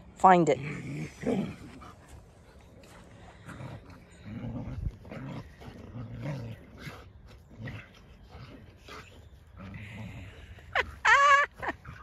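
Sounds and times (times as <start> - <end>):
dogs growling in play: 0.0 - 12.0.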